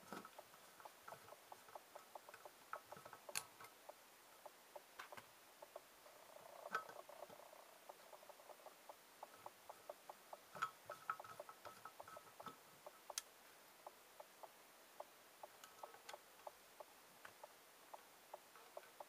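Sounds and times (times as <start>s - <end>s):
faint light ticking: 0.1s - 19.0s.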